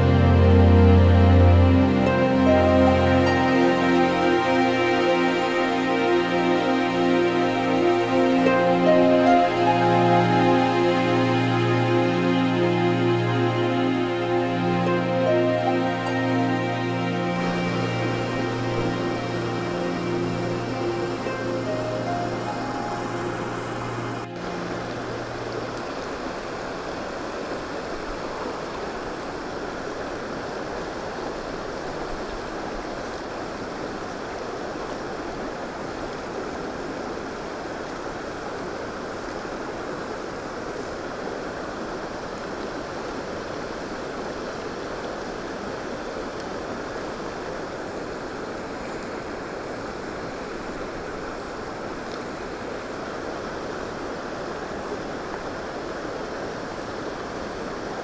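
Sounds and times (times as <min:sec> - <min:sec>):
small water cascade: 0:00.0 - 0:58.0
stream running over stones: 0:00.0 - 0:58.0.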